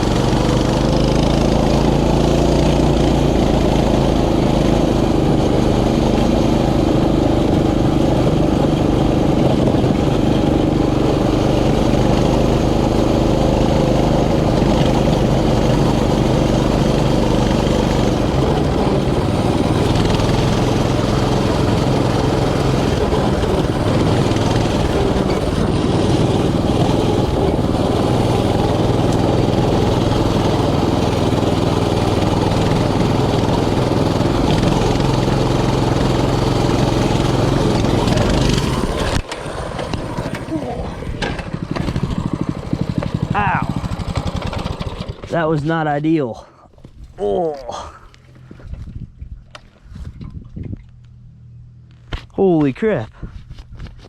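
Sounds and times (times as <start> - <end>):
mini bike engine running: 0.0 - 46.1.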